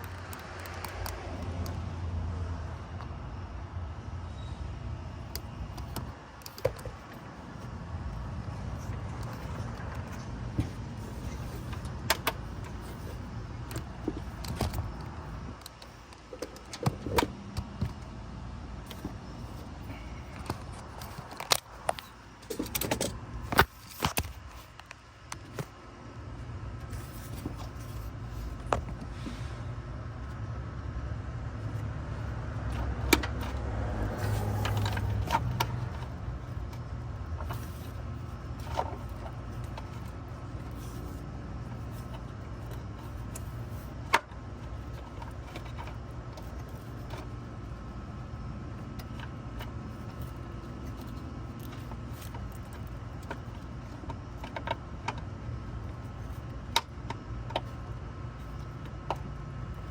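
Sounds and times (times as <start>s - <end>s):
car engine running: 5.1s - 24.6s, 25.4s - 59.9s
sharp clicks and rattles: 5.2s - 18.1s, 18.8s - 25.8s, 31.6s - 59.9s.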